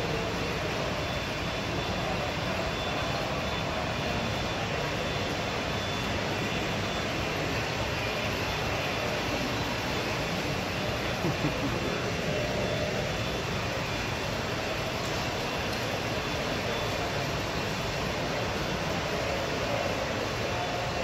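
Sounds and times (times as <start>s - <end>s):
exhibition hall background noise: 0.0s - 21.0s.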